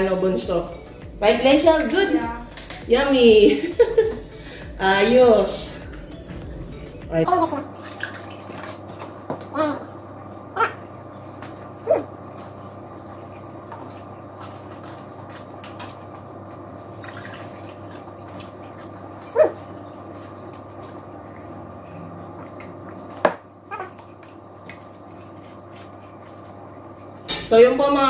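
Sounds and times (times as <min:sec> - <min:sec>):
background hum: 0:00.0 - 0:28.0.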